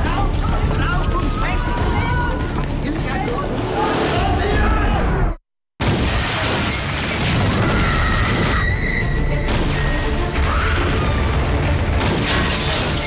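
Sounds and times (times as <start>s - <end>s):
music: 0.0s - 5.4s, 7.6s - 13.0s.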